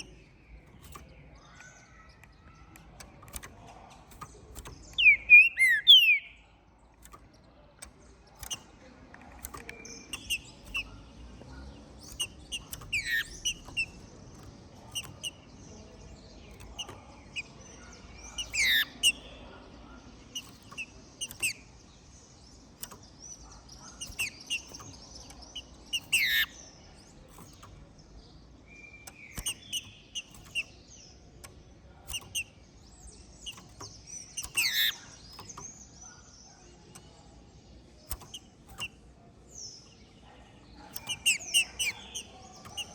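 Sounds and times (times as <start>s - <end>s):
bird chipping notes: 0.0s - 42.9s.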